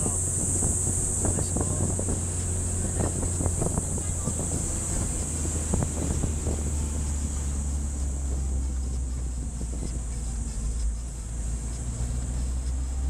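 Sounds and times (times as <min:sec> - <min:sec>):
high road hiss: 0:00.0 - 0:13.0
vehicle engine rumble: 0:00.0 - 0:13.0.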